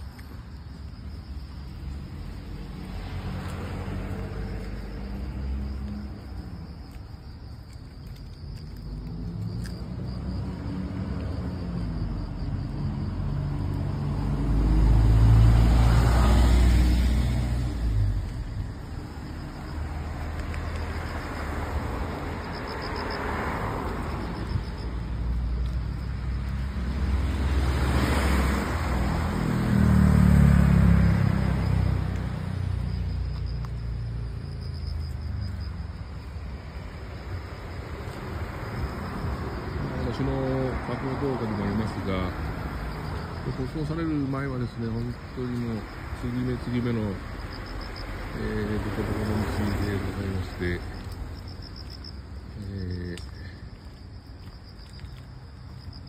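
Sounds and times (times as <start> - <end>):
cars passing: 0.0 - 56.0.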